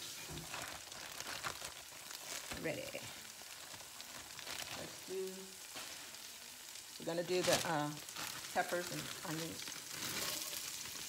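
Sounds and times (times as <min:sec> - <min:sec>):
oil sizzling in a skillet: 0:00.0 - 0:11.0.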